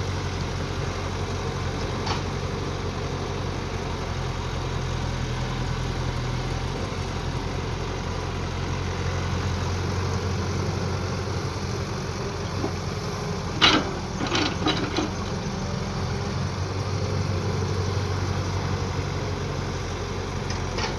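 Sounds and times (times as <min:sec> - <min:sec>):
excavator engine running: 0:00.3 - 0:20.9.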